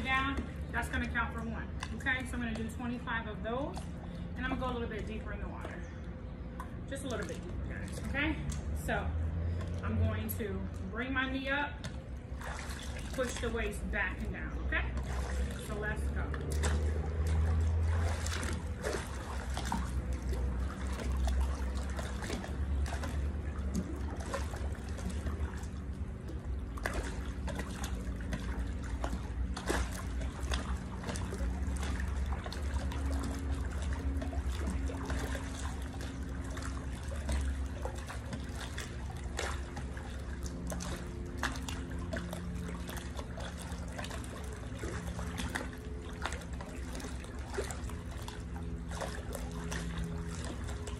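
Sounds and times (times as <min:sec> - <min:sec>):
low steady rumble: 0:00.0 - 0:50.9
pool water sloshing and splashing: 0:00.0 - 0:50.9.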